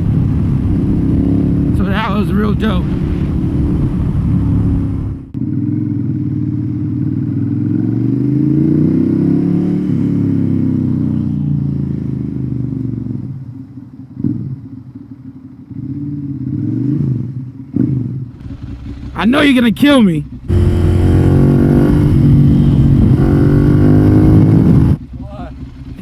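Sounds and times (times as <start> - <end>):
motorcycle engine revving: 0.0 - 13.6, 14.2 - 26.0.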